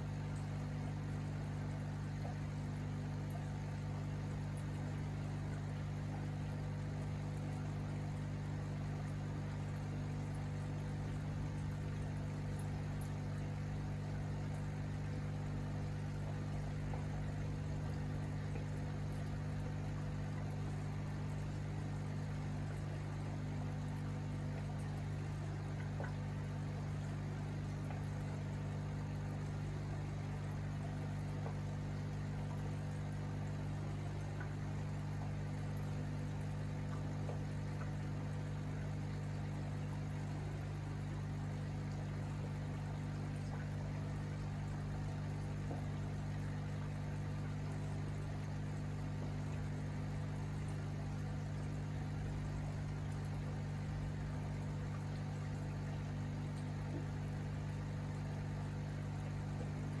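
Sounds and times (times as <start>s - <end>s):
aquarium pump humming: 0.0s - 60.0s
faint bubbling water: 0.0s - 60.0s.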